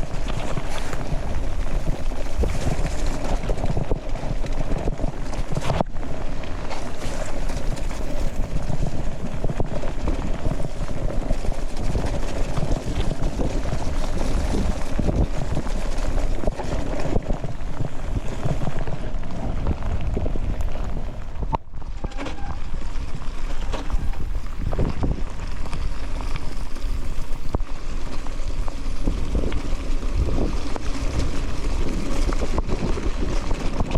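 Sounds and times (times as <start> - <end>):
wet tyres rushing: 0.0 - 33.9
wind buffeting microphone: 0.0 - 33.9.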